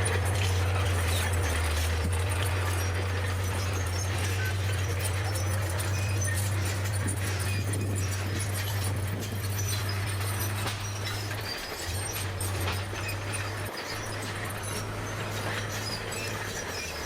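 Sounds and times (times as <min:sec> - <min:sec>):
bulldozer engine drone: 0:00.0 - 0:17.0
tracks clattering and scraping: 0:00.0 - 0:17.0.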